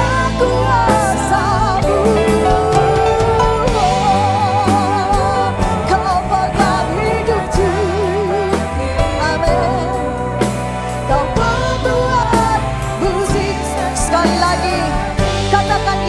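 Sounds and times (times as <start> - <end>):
bass line: 0.0 - 16.0
drum beats: 0.0 - 16.0
person singing with vibrato: 0.0 - 16.0.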